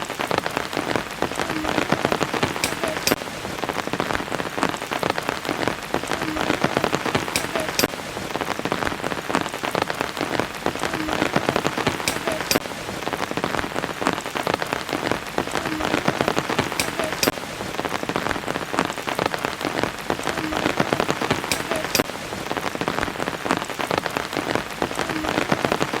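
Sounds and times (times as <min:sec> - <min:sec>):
rain patter: 0:00.0 - 0:26.0.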